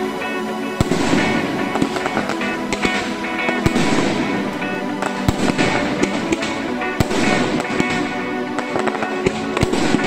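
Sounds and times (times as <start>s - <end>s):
background music: 0.0s - 10.0s
fireworks bangs: 0.8s - 10.0s.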